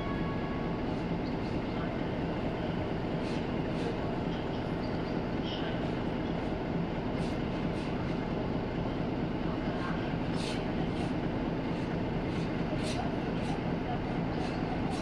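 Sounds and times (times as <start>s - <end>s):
diesel railcar rumble: 0.0s - 15.0s.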